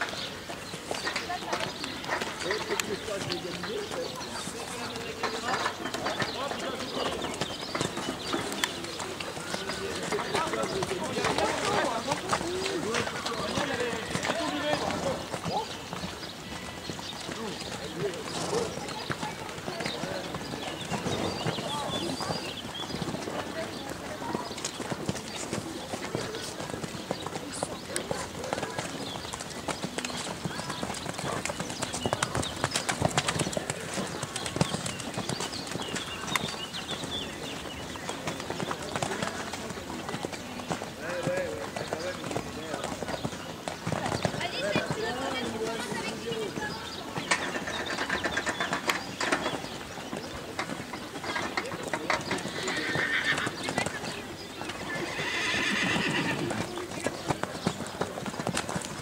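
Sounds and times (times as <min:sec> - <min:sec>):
hoofbeats on wet sand: 0:00.0 - 0:59.0.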